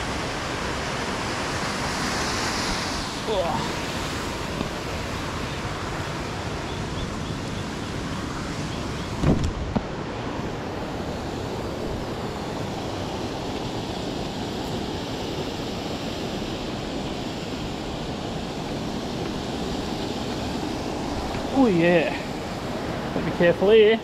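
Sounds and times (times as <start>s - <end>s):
waterfall rushing over rocks: 0.0s - 24.0s.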